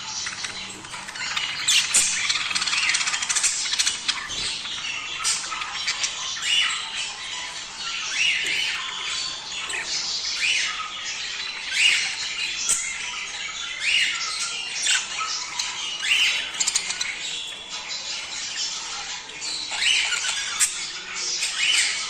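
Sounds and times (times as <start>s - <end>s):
budgerigars chattering and squawking: 0.0s - 22.0s.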